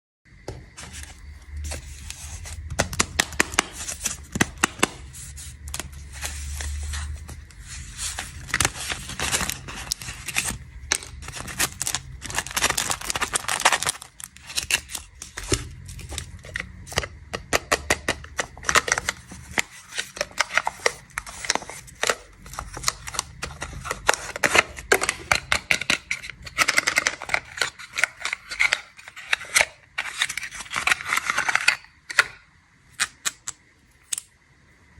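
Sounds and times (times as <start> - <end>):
plastic packaging crinkling: 0.8 - 32.3.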